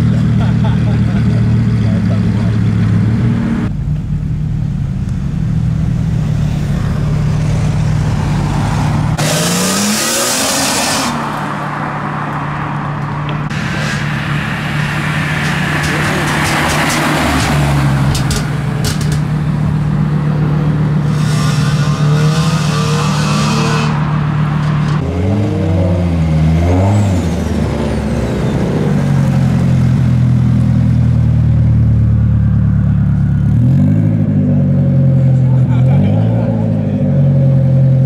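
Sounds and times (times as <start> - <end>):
car engines revving and accelerating: 0.0 - 38.0.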